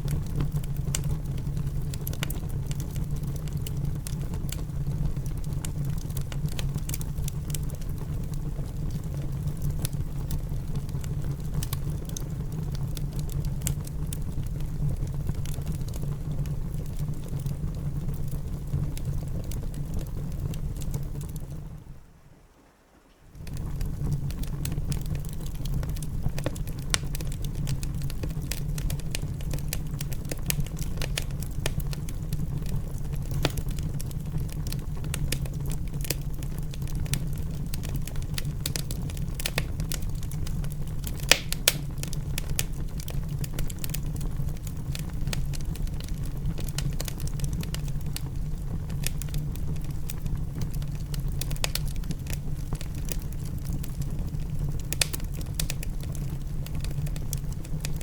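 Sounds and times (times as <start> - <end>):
wood fire crackling and popping: 0.0 - 22.0, 23.2 - 58.0.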